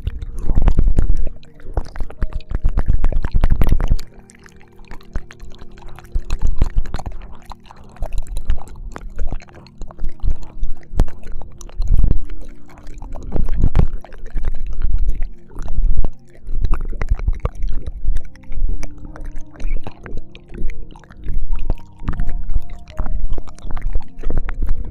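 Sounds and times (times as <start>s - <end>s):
wet mouth licking sounds: 0.0s - 24.9s.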